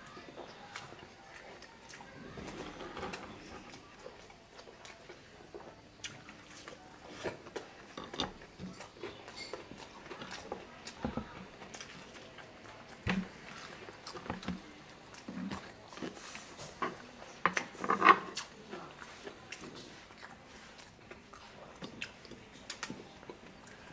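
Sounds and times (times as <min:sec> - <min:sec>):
chewing with mouth smacks: 0:00.3 - 0:23.9.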